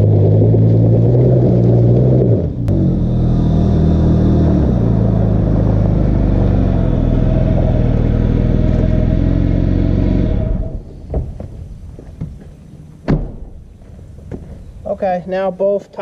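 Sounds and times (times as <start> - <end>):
suv engine running: 0.0 - 14.8
tires on gravel: 0.0 - 15.2.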